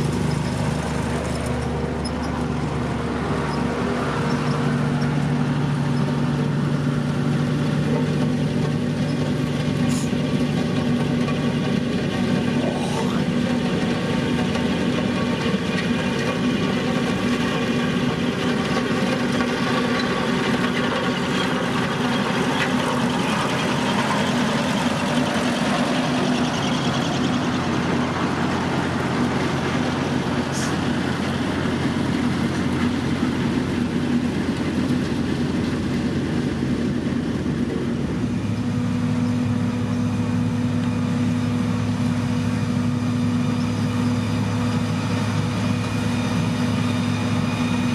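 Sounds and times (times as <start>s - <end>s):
heavy machinery diesel engine: 0.0s - 47.9s.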